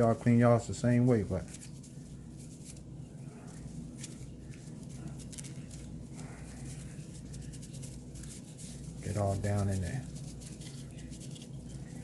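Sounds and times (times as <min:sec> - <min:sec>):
cloth rubbing on pistol parts: 0:01.1 - 0:12.0.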